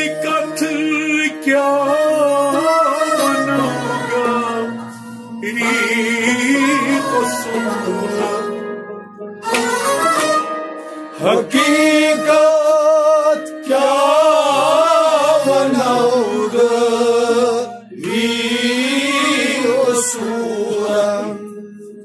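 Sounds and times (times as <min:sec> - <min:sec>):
man singing long held notes: 0:00.0 - 0:08.8, 0:11.1 - 0:22.0.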